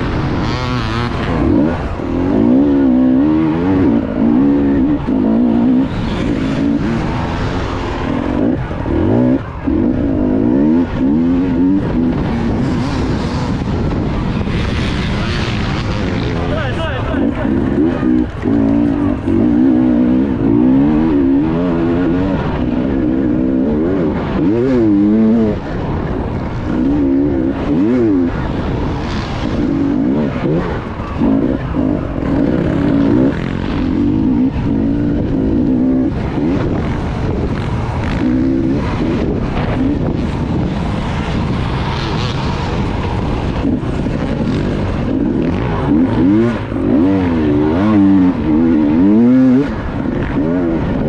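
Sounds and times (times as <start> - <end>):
racing motorcycle engines revving: 0.0 - 51.0.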